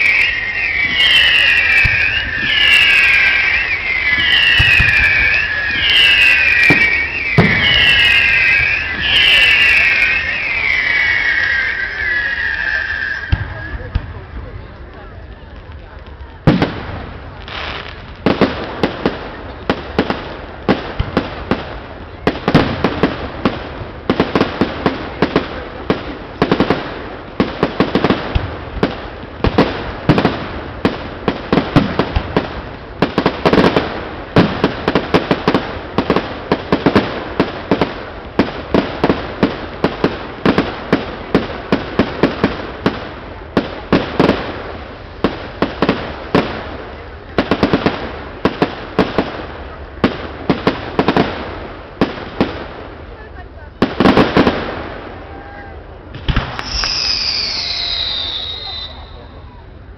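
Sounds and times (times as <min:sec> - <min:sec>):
fireworks bursting with bangs and crackles: 0:00.0 - 0:59.9.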